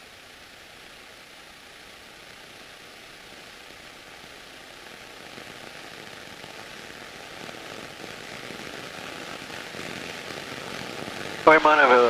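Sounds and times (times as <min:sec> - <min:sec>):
aircraft cabin engine hiss: 0:00.0 - 0:12.0.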